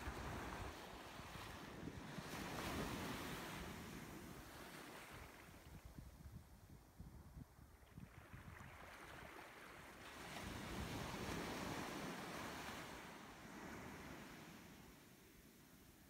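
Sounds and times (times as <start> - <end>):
faint surf washing on shore: 0.0 - 6.2, 6.8 - 16.0
wind rumbling on microphone: 0.0 - 14.8.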